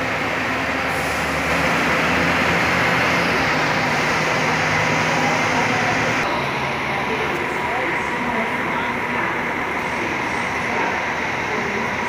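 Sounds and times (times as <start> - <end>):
diesel coach engines droning: 0.0 - 12.0.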